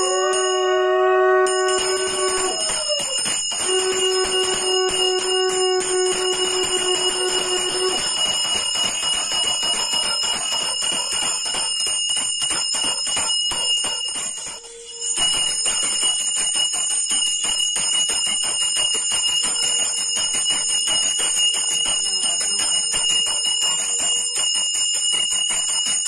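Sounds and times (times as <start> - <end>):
brass hand bell ringing: 0.0 - 26.0.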